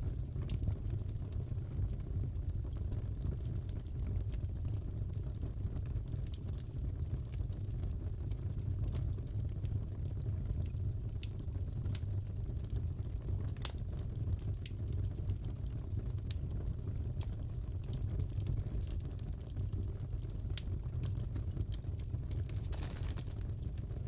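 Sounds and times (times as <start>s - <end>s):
fire crackles and pops: 0.0s - 24.0s
fire rumbling: 0.1s - 24.0s.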